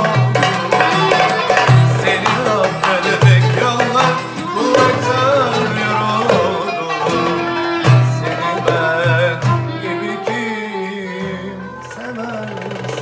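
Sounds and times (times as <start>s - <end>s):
darbuka drum: 0.0s - 13.0s
kanun: 0.0s - 13.0s
man singing: 0.0s - 13.0s
strummed acoustic guitar: 0.0s - 13.0s
violin: 0.0s - 13.0s.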